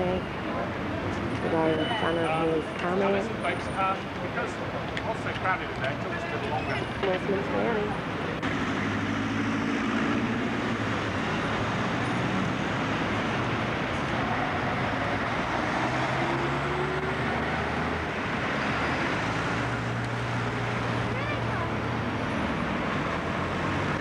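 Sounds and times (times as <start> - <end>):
road and traffic hum: 0.0 - 24.0.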